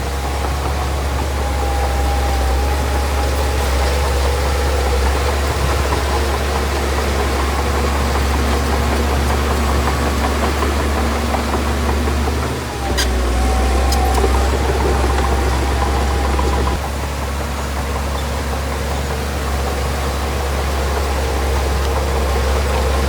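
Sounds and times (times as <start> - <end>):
diesel machinery engine droning: 0.0 - 23.0.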